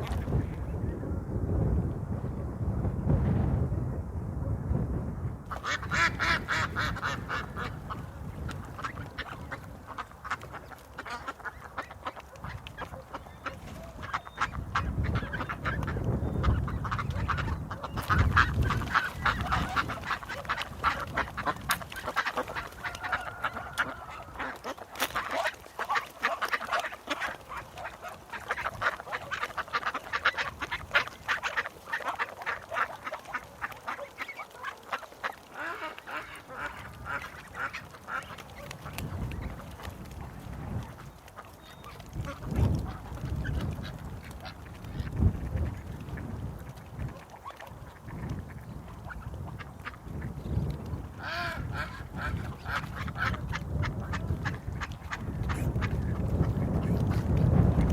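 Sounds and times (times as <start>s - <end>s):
ducks quacking: 5.5s - 57.4s.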